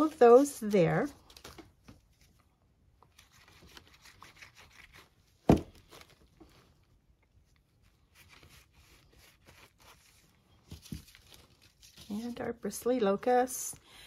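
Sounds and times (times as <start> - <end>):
paper rustling and crinkling: 0.0 - 12.8.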